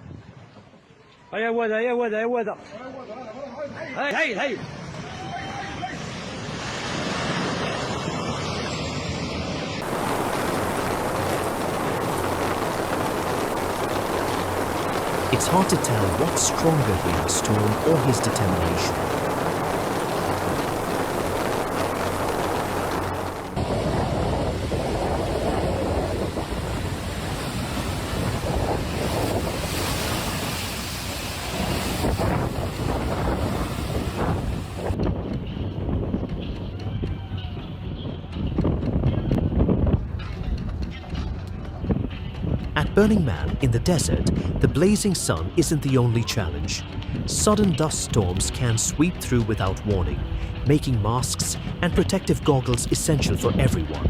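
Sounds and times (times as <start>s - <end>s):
storm wind on microphone: 0.0s - 0.9s, 6.4s - 45.6s, 46.4s - 54.0s.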